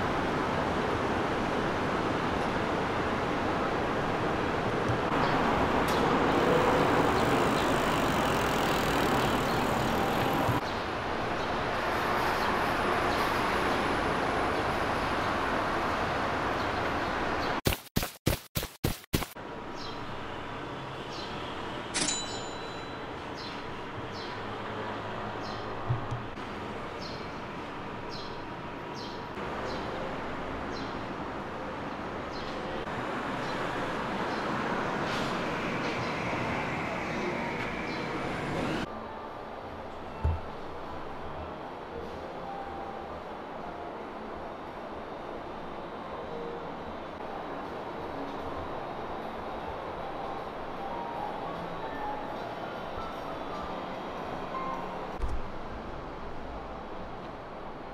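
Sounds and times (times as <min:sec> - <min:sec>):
traffic noise from passing vehicles: 0:00.0 - 0:17.6, 0:19.4 - 0:39.8, 0:40.5 - 0:57.9.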